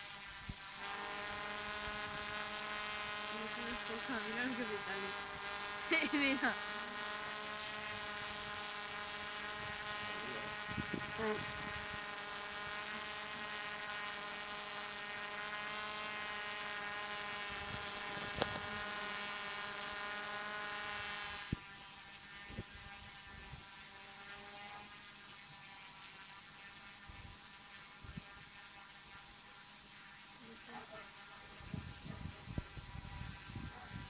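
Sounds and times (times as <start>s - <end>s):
quadcopter propellers whirring: 0.0s - 34.0s.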